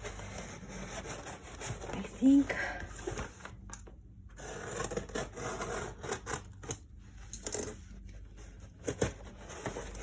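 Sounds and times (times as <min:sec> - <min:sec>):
scratching parcel packaging: 0:00.0 - 0:03.7, 0:04.3 - 0:06.9, 0:07.5 - 0:10.0.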